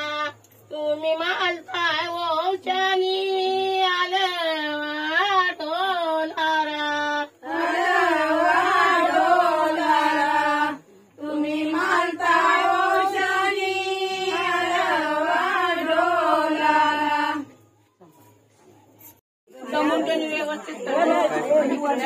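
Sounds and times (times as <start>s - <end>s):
women singing unaccompanied: 0.0s - 17.6s, 19.5s - 22.0s.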